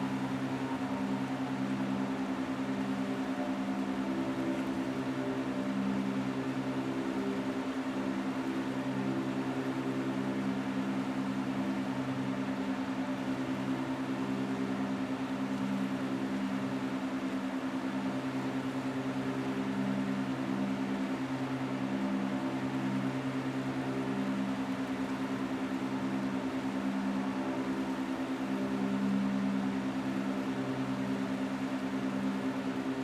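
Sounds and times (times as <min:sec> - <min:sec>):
low hum of held tones: 0:00.0 - 0:33.0.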